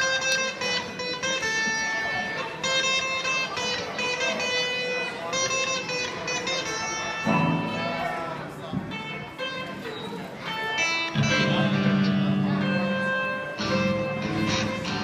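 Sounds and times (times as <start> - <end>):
guitar picking notes: 0.0 - 15.0.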